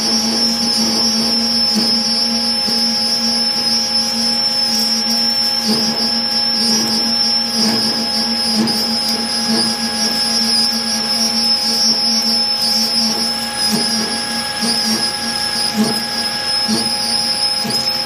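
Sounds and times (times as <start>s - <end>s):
lathe cutting whine: 0.0s - 18.0s
machine hum: 0.0s - 18.0s.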